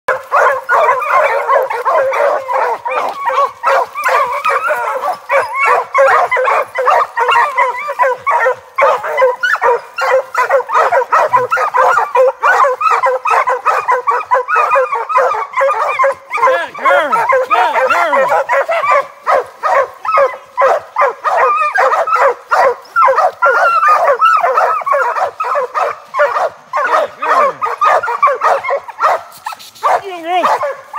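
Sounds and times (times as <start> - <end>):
hound pups barking and yipping: 0.1 - 30.9.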